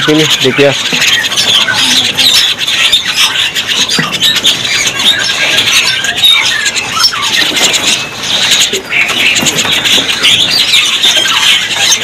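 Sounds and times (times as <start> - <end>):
caged birds chattering: 0.0 - 12.0.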